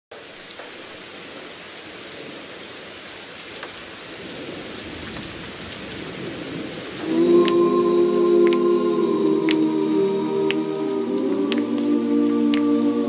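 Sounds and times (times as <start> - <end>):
steady rain falling: 0.1 - 13.0
raindrop ticks: 0.2 - 1.6, 3.4 - 12.8.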